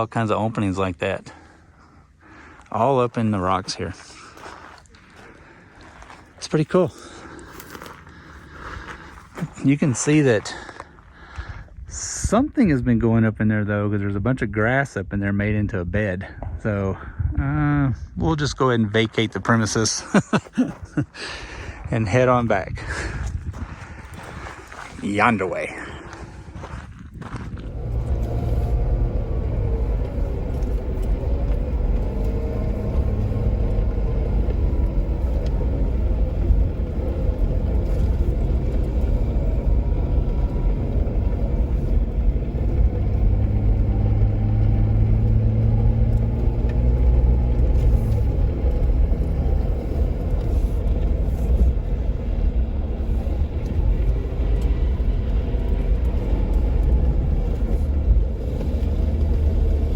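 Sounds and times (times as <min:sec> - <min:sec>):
car engine driving: 0:00.0 - 0:59.9.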